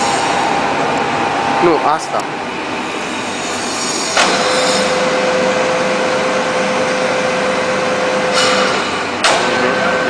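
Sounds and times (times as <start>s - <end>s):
constant machine whine: 0.0s - 10.0s
lathe motor humming: 0.0s - 10.0s.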